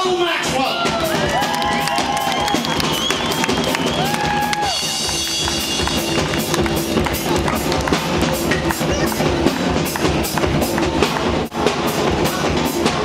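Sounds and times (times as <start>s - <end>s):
drum kit beat: 0.0s - 13.0s
rockabilly band playing live: 0.0s - 13.0s.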